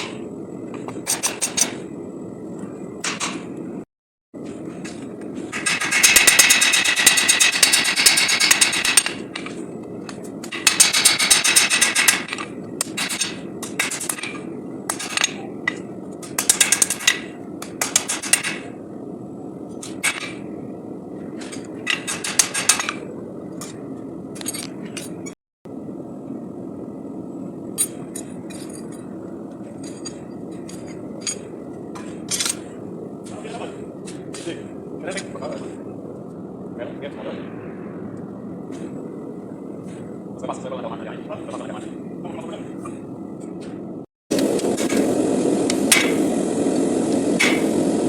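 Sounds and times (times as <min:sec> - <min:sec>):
steady background noise: 0:00.0 - 0:48.0.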